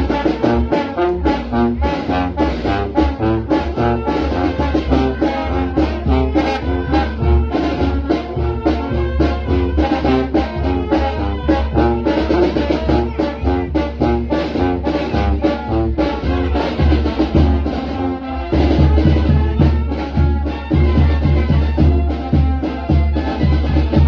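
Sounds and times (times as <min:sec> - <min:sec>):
trumpets and trombones: 0:00.0 - 0:24.0.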